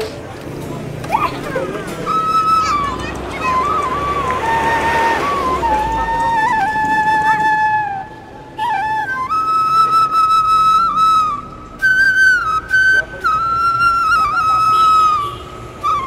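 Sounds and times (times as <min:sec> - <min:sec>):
solo flute melody: 0:01.9 - 0:16.0.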